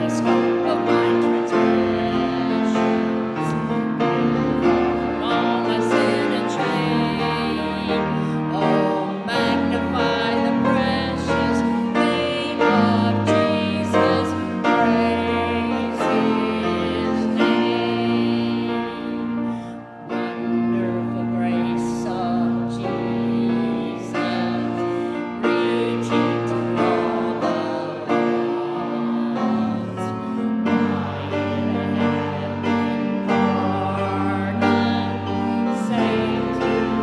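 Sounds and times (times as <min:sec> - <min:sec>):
congregation singing a hymn: 0:00.0 - 0:37.0
lead voice singing with vibrato: 0:00.0 - 0:37.0
piano accompaniment: 0:00.0 - 0:37.0.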